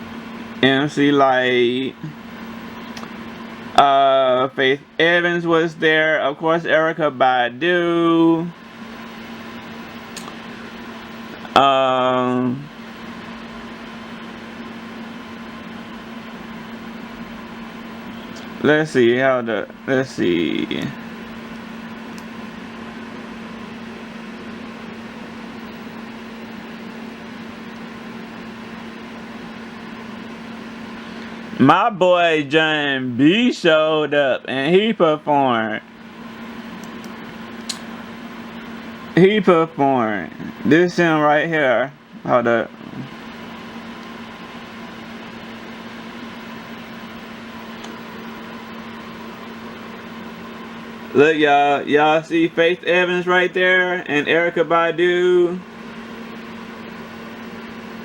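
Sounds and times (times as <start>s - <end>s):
constant low hum: 0.0s - 58.0s
room noise hiss: 0.0s - 58.0s.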